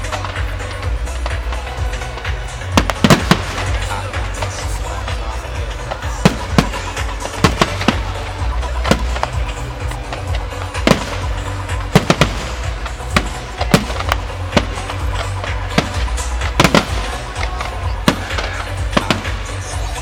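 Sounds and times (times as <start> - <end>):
fireworks bangs and cracks: 0.0 - 20.0
music playing: 0.0 - 20.0.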